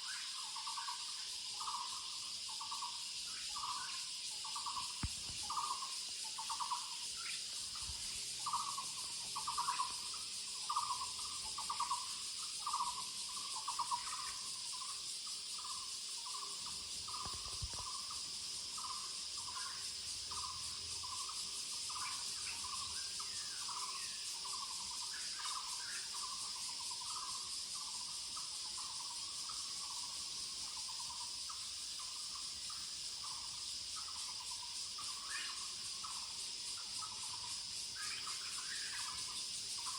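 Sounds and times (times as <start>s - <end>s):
high hiss of insects: 0.0s - 39.9s.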